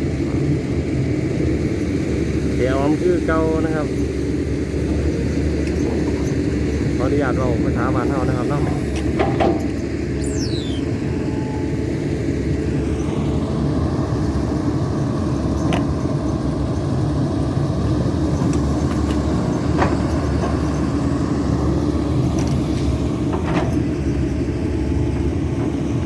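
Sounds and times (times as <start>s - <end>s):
excavator diesel engine drone: 0.0s - 26.0s.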